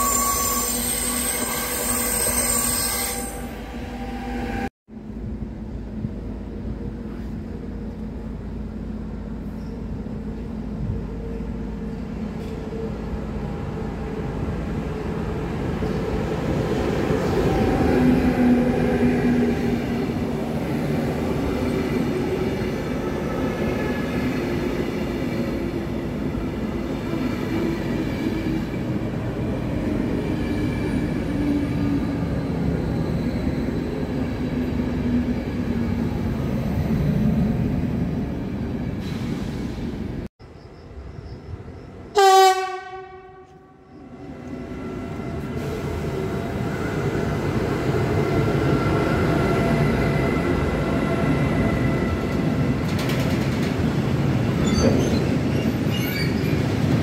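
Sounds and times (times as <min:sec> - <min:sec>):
passenger train rumbling past: 0:00.0 - 0:57.0.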